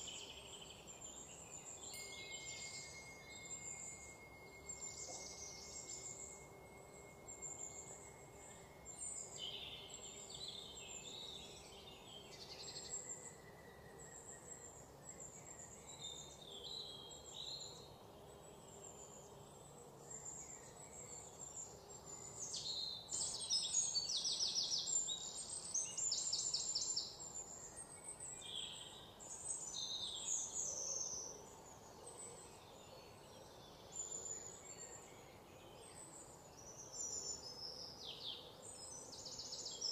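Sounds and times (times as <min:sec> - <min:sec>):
insects: 0:00.0 - 0:39.9.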